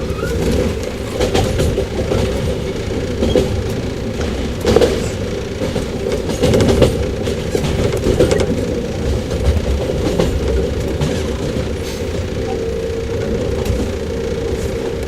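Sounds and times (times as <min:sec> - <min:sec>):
train rumble with motor hum: 0:00.0 - 0:15.0
wheels clicking over rail joints: 0:00.0 - 0:15.0.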